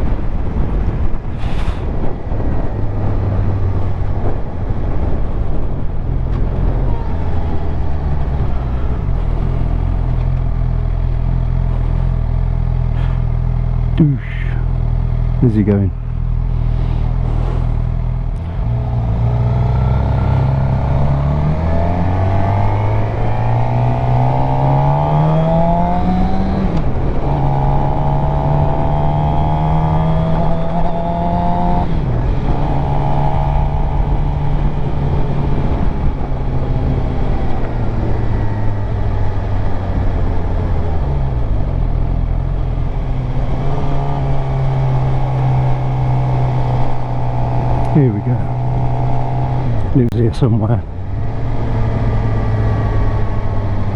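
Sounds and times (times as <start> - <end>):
wind noise: 0.0 - 13.6, 16.0 - 53.9
motorcycle engine accelerating: 0.0 - 53.9.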